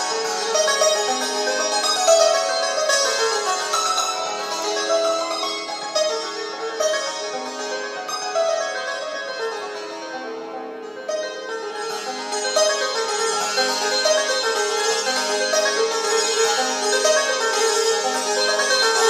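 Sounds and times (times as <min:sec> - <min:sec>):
hammered dulcimer playing: 0:00.0 - 0:19.0.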